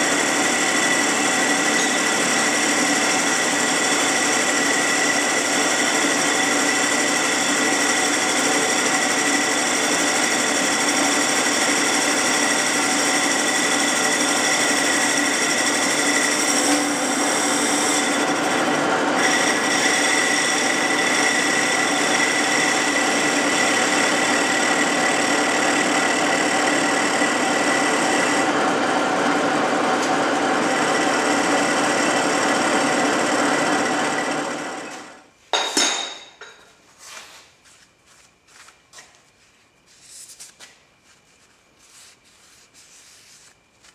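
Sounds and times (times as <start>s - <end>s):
metal lathe humming and whining: 0.0s - 35.2s.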